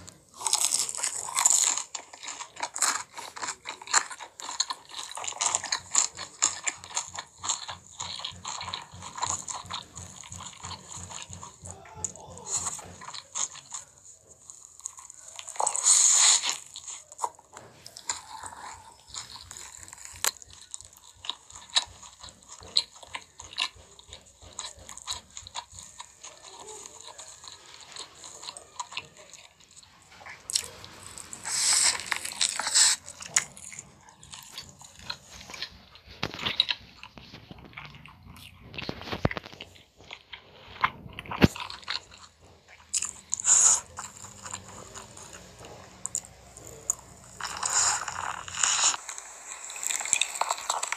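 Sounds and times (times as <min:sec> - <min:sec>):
person biting food: 0:00.0 - 0:50.9
wet chewing clicks: 0:00.0 - 0:50.9.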